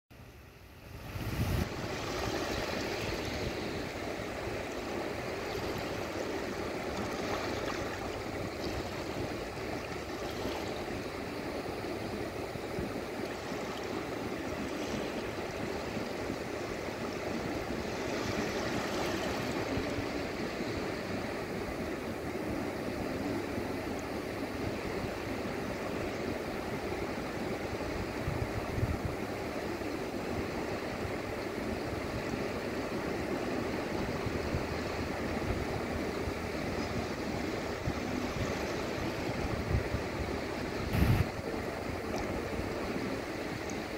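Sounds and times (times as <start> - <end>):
small waves washing on sand: 0.8 - 43.9.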